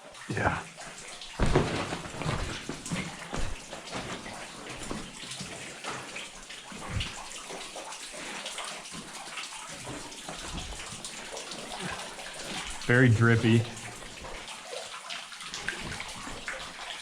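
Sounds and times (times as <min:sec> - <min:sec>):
water dripping: 0:00.0 - 0:17.0
water sloshing around wading legs: 0:00.7 - 0:17.0.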